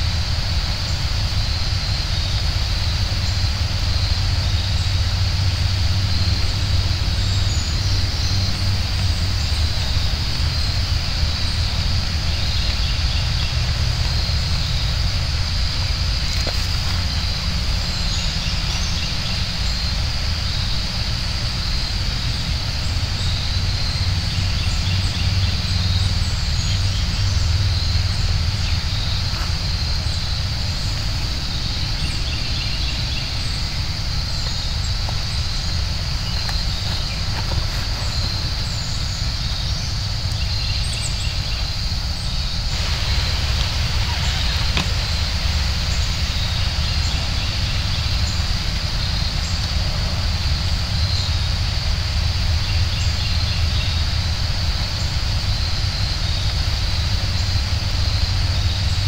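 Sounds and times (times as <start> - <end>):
high-pitched hiss: 0.0 - 59.0
low rumble: 0.0 - 59.0
faint chirps: 0.1 - 59.0.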